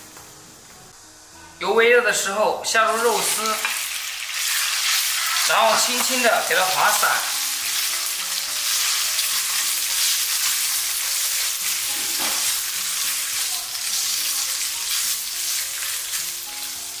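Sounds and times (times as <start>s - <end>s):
pork sizzling in hot oil: 2.2s - 17.0s.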